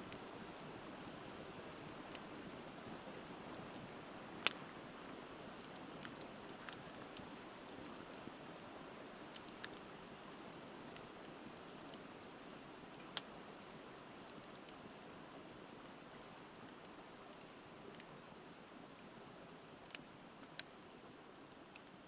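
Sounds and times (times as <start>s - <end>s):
bonfire crackling and popping: 0.1s - 13.3s, 15.9s - 22.0s.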